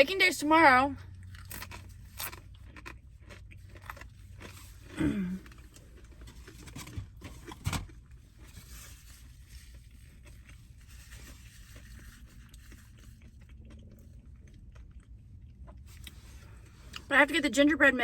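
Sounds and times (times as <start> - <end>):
chewing clicks and mouth noises: 1.1 - 8.2, 9.1 - 17.1.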